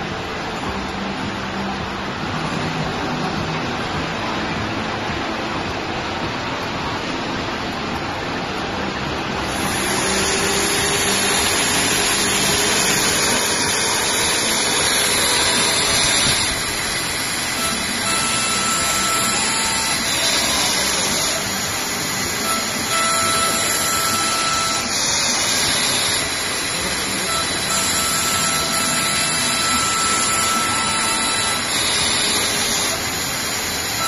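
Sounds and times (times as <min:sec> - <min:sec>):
plotter mechanical whirring hiss: 0:06.4 - 0:34.0.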